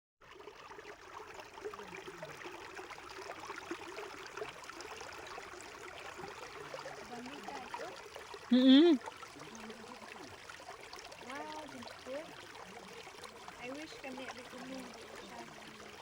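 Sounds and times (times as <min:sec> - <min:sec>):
stream babbling: 0:00.2 - 0:16.0.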